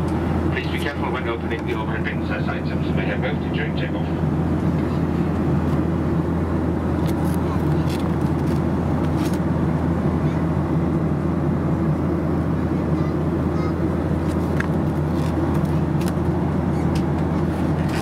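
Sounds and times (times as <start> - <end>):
aircraft cabin roar of airflow and engines: 0.0 - 18.0.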